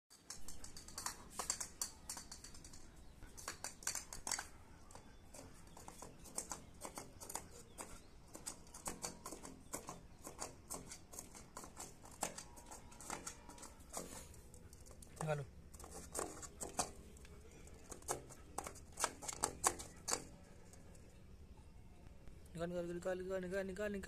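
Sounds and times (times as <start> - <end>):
dog paws scraping metal grate: 0.1 - 21.0.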